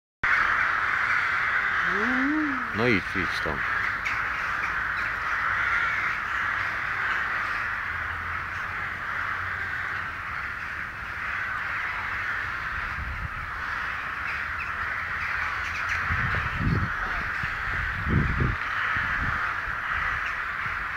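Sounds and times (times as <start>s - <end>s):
flock of crows cawing: 0.2s - 20.9s.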